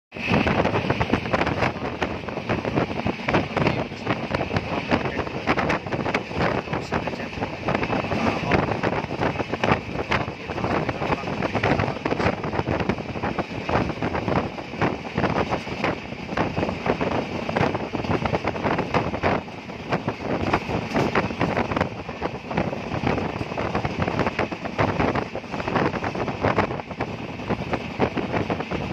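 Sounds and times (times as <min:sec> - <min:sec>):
air rushing and buffeting microphone: 0:00.1 - 0:28.9
vehicle running at speed: 0:00.2 - 0:28.9.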